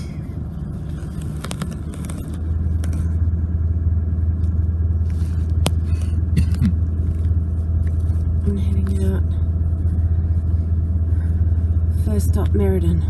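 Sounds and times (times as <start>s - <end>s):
vehicle engine and tyre drone: 0.0s - 13.0s.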